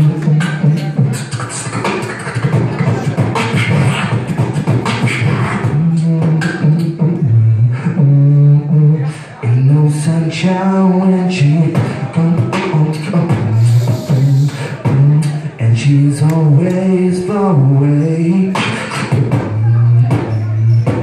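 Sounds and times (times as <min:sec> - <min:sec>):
human beatbox drum sounds: 0:00.0 - 0:21.0.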